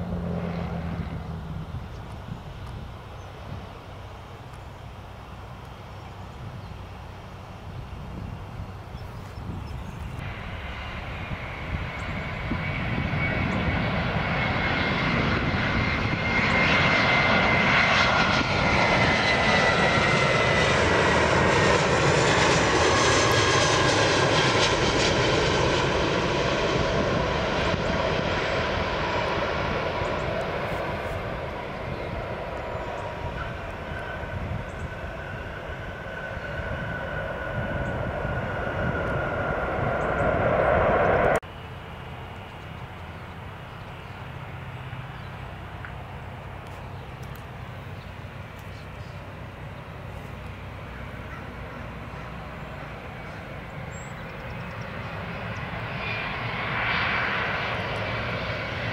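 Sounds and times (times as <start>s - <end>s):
jet airliner passing close: 0.0s - 4.5s, 5.5s - 58.9s
jet engine whine: 0.0s - 58.9s.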